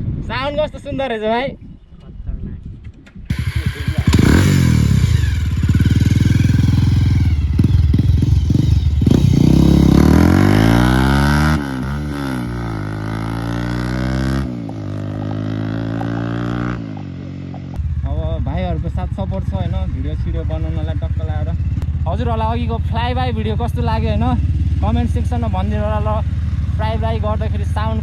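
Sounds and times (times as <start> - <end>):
motorcycle engine revving: 3.3 - 28.0.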